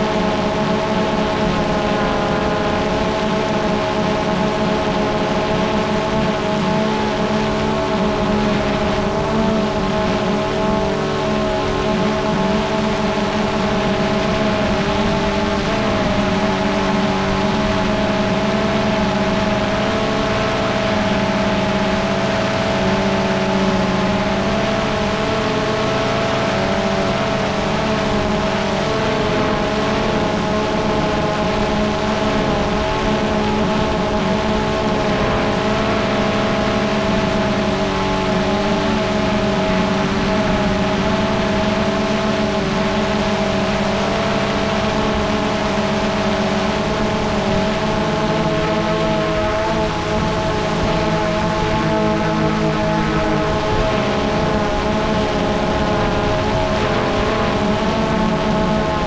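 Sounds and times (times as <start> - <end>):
drone motors whining: 0.1 - 59.0.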